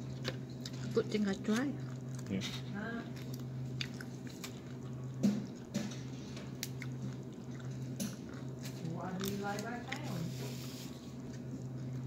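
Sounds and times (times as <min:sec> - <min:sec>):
chewing tortilla chips: 0:00.0 - 0:12.0
steady low hum: 0:00.0 - 0:12.0.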